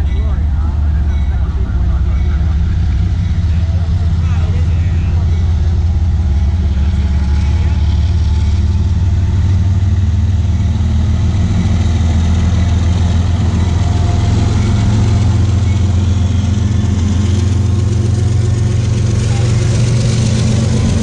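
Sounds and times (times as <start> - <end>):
diesel locomotives rumbling past: 0.0 - 21.0.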